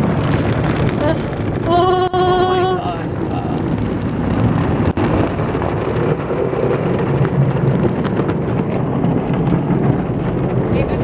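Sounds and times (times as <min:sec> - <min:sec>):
water drumming on car roof: 0:00.0 - 0:11.0.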